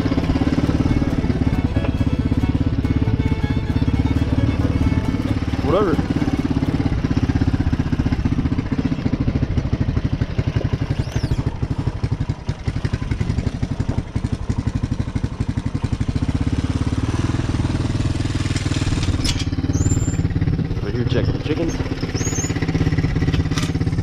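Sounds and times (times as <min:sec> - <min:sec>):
quad bike engine idling: 0:00.0 - 0:24.0.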